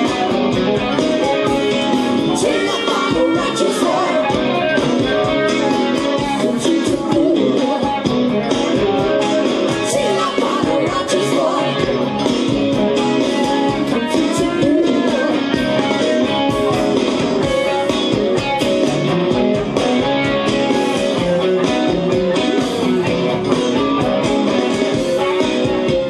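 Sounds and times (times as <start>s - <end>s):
band backing track: 0.0s - 26.0s
electric guitar lead: 0.0s - 26.0s
steady drum beat: 0.0s - 26.0s.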